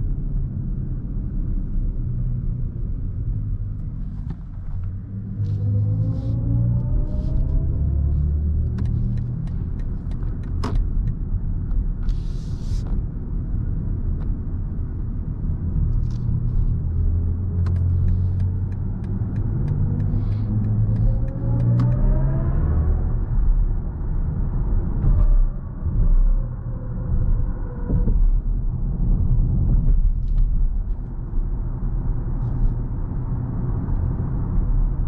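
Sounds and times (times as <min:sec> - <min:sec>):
road and tyre rumble in cabin: 0:00.0 - 0:35.0.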